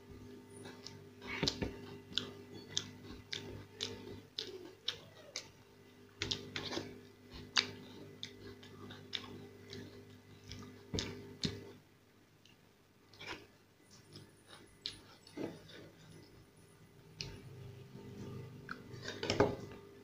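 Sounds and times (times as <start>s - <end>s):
man chewing with wet smacks: 0.6s - 11.8s, 12.4s - 17.6s, 18.2s - 19.7s.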